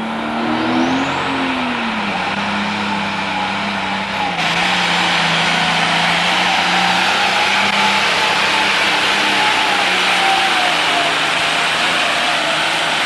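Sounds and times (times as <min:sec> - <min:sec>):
diesel tractor engine running hard: 0:00.0 - 0:13.0.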